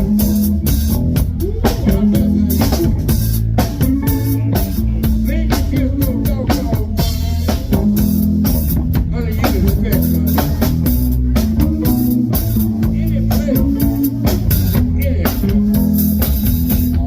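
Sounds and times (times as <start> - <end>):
bass: 0.0 - 17.0
drum kit with snare and cymbals: 0.0 - 17.0
electric guitar: 0.0 - 17.0.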